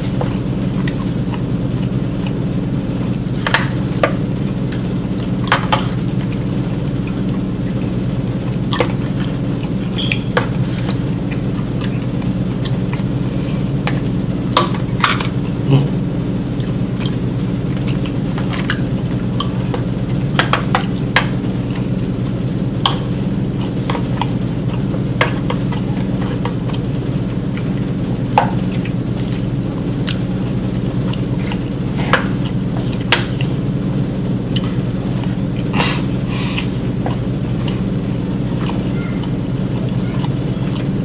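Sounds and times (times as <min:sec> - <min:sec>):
chewing: 0:00.0 - 0:41.0
low background hum: 0:00.0 - 0:41.0.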